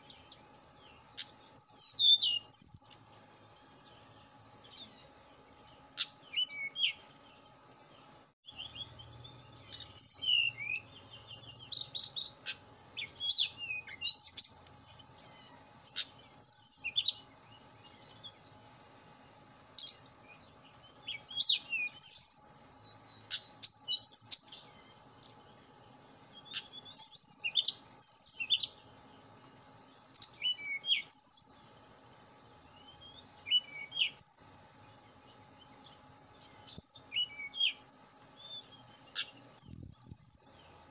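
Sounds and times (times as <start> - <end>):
bird singing whistles and trills: 0.0 - 3.0, 3.8 - 7.5, 8.4 - 25.0, 25.7 - 28.8, 29.8 - 31.6, 32.2 - 34.6, 35.3 - 40.8.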